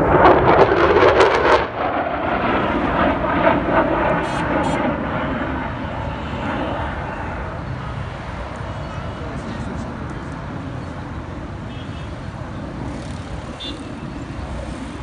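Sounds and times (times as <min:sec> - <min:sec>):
fighter jet passing by: 0:00.0 - 0:15.0.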